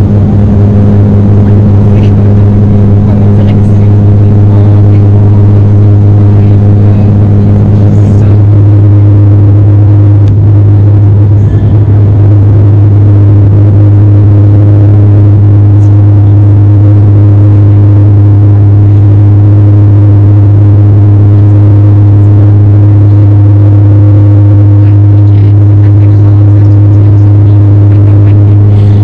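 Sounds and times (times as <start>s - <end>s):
propeller engines droning: 0.0s - 29.0s.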